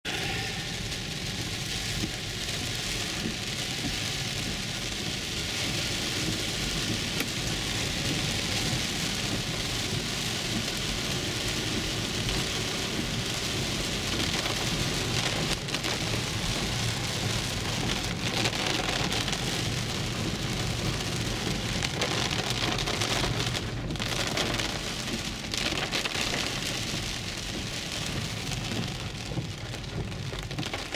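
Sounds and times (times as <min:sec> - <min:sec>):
heavy rain on car roof: 0:00.0 - 0:30.9.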